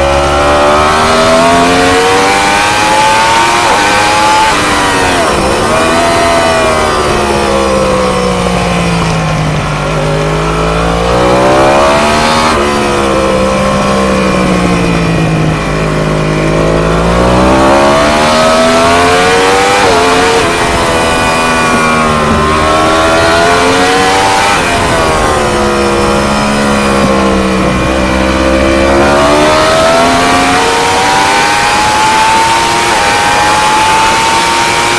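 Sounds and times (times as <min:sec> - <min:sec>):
racing motorcycle engine: 0:00.0 - 0:34.9.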